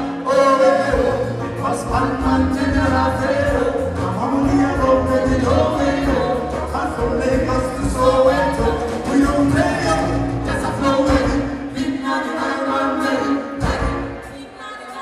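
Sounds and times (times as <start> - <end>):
bass: 0.0 - 14.5
live band playing: 0.0 - 15.0
voices singing together: 0.0 - 15.0.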